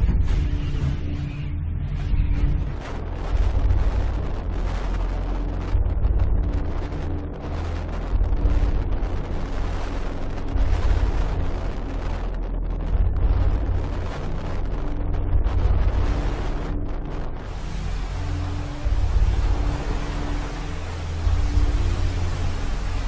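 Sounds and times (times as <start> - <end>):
rough sea and surf: 0.0 - 23.0
wind buffeting microphone: 0.0 - 23.0.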